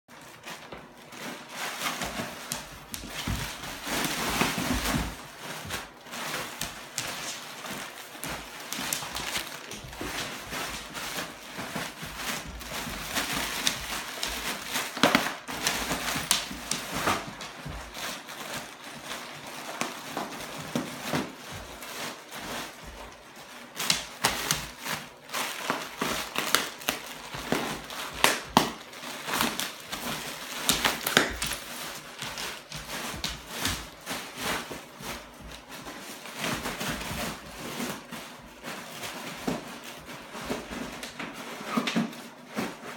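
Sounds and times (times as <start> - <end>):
bubble wrap crinkling and popping: 0.1 - 42.9.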